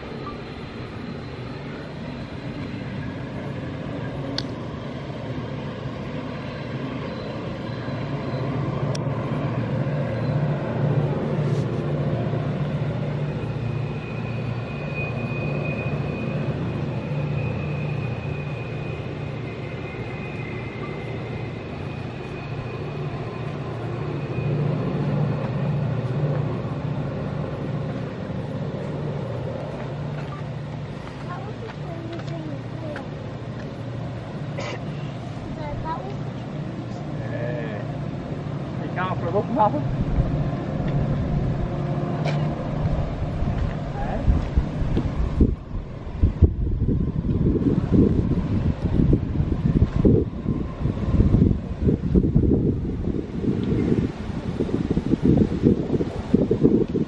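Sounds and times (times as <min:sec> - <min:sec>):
distant diesel locomotive drone: 0:00.0 - 0:57.0
faint high whine: 0:00.0 - 0:57.0.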